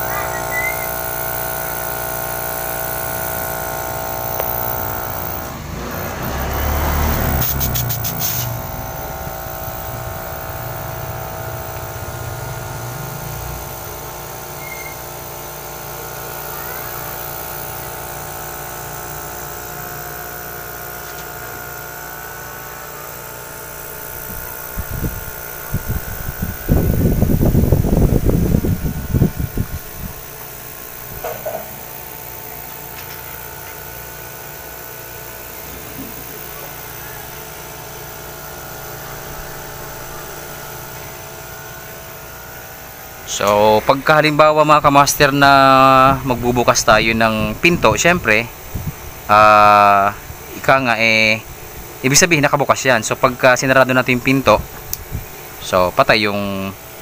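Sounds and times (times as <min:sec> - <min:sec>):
refrigerator compressor hum: 0:00.0 - 0:57.0.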